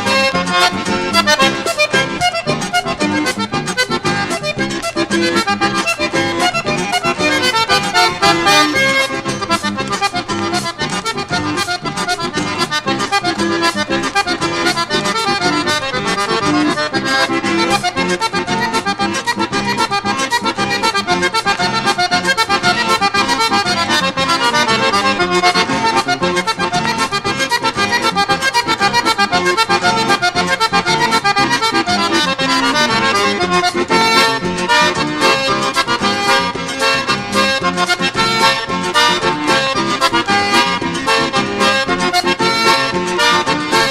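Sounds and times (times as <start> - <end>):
accordion dance tune: 0.0 - 43.9.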